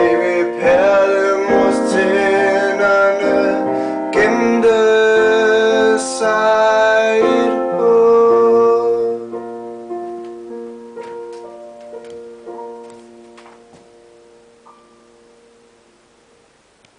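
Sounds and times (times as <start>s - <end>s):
piano chords: 0.0s - 16.9s.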